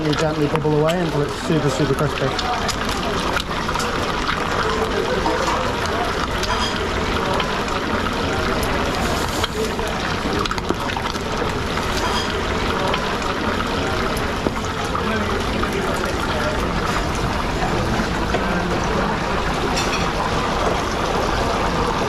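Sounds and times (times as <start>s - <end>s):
hot oil bubbling and crackling: 0.0s - 22.0s.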